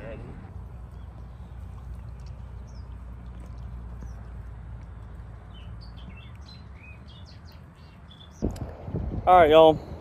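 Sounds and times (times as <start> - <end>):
small birds chirping: 0.0 - 8.7
steady low rumble: 0.0 - 10.0.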